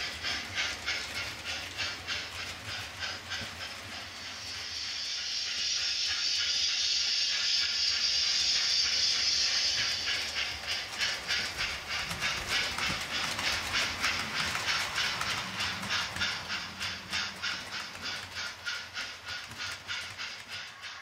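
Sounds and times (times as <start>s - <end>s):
model train wheels clicking: 0.0s - 21.0s
steady hiss: 0.0s - 21.0s.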